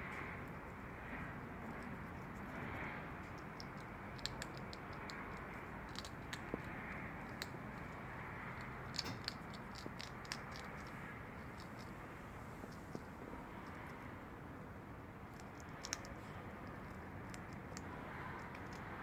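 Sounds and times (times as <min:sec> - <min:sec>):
steady background hiss: 0:00.0 - 0:19.0
animal crunching dry pet food: 0:01.7 - 0:14.1, 0:15.3 - 0:19.0.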